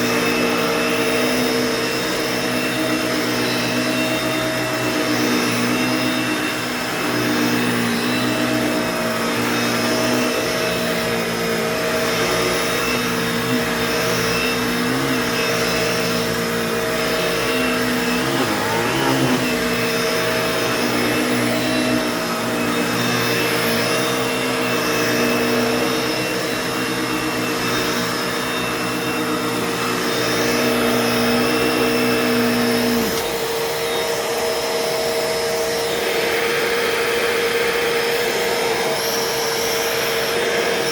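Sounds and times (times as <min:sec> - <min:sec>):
vacuum cleaner motor whining: 0:00.0 - 0:40.9.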